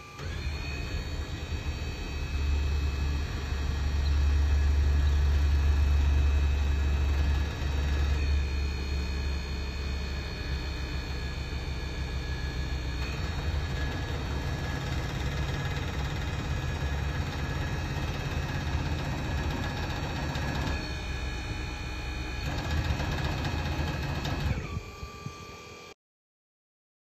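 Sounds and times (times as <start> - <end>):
hydraulic pump motor running: 0.0 - 25.9.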